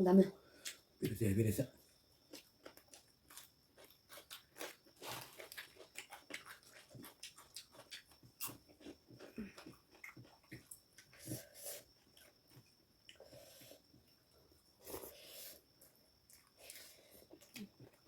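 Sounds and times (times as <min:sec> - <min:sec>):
people chewing: 0:02.3 - 0:14.1, 0:14.8 - 0:18.0.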